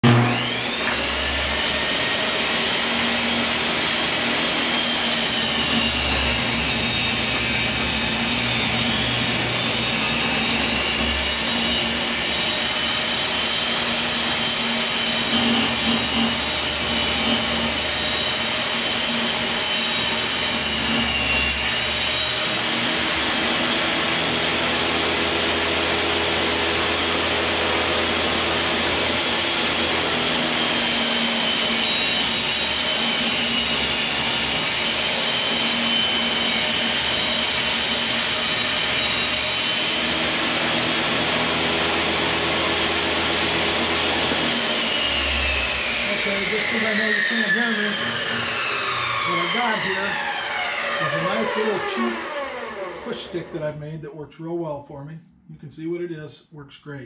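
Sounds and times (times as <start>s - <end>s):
table saw ripping wood: 0.0s - 53.7s.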